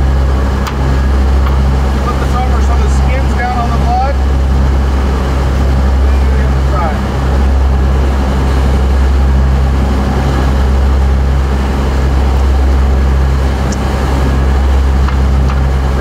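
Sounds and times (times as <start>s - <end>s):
boat engine droning: 0.0s - 16.0s
wake water rushing: 0.0s - 16.0s
wind: 0.0s - 16.0s.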